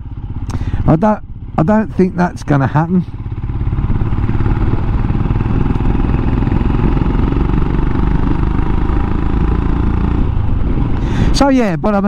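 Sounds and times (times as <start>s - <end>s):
single-cylinder motorcycle engine running: 0.0s - 12.0s.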